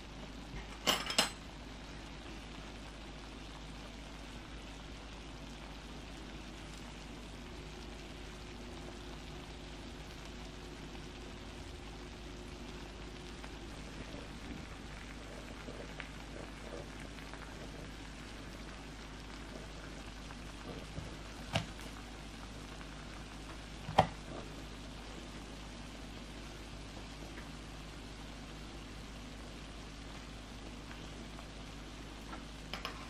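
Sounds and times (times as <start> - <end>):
sauce sizzling on griddle pan: 0.0 - 33.0.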